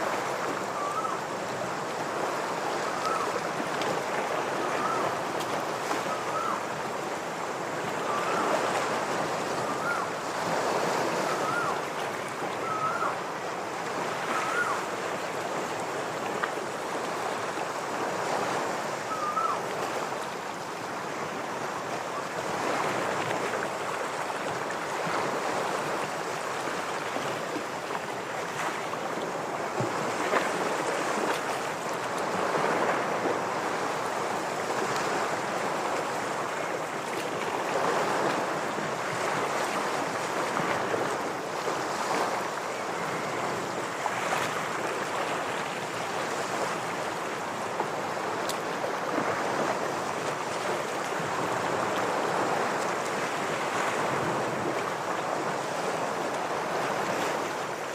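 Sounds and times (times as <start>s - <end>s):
ocean waves washing on rocks: 0.0s - 57.9s.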